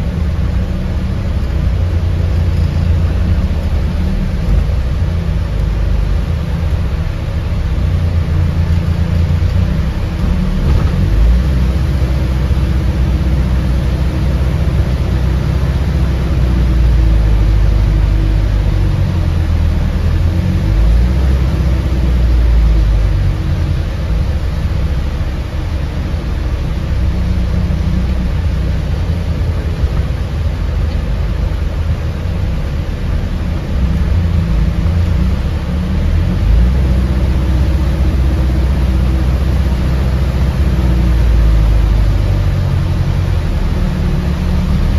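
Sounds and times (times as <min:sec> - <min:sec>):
bus drivetrain rumble: 0:00.0 - 0:44.9
road noise: 0:00.0 - 0:44.9.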